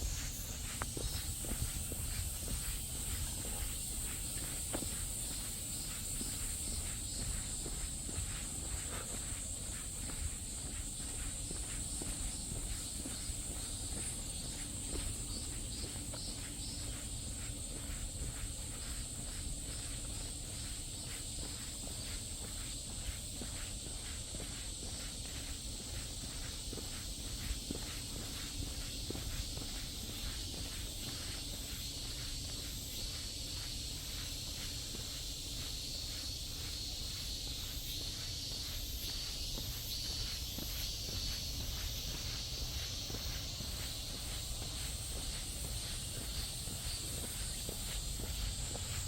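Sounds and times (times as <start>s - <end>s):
footsteps on path: 0.0s - 49.0s
insects droning: 0.0s - 49.0s.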